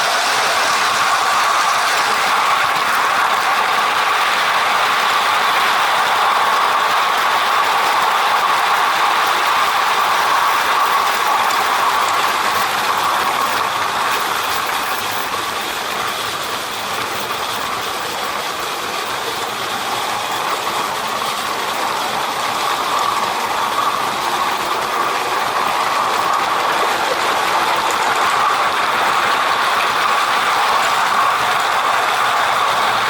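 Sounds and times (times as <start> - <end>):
model steam train running: 0.0 - 33.0.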